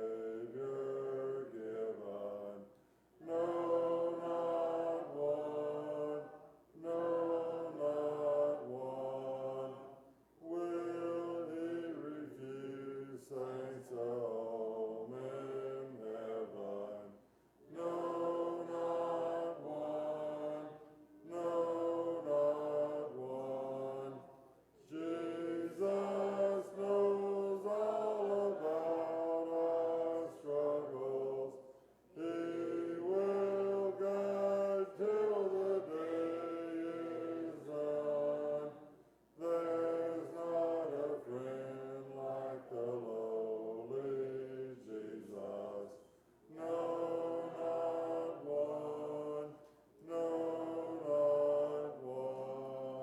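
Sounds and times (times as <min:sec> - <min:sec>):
congregation singing a hymn: 0:00.0 - 0:53.0.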